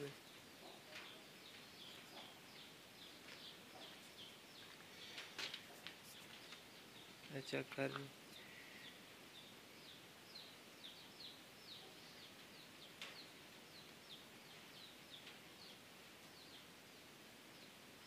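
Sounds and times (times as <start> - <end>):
background hiss: 0.0 - 18.0
small birds chirping: 0.0 - 18.0.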